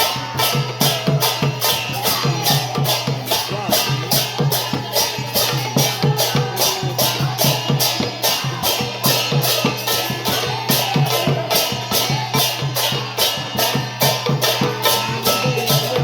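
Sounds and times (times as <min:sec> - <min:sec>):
folk music percussive beat: 0:00.0 - 0:16.0.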